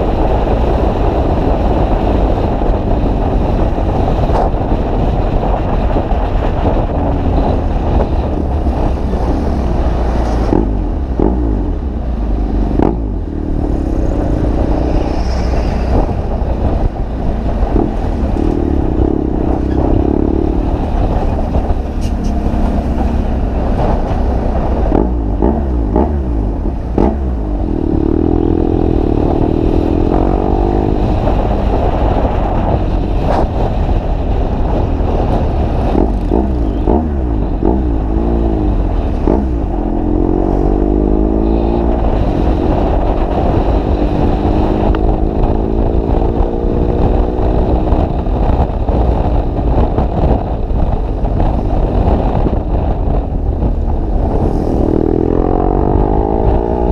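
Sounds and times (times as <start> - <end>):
motorcycle engine accelerating: 0.0 - 56.9
wind and road noise: 0.0 - 56.9.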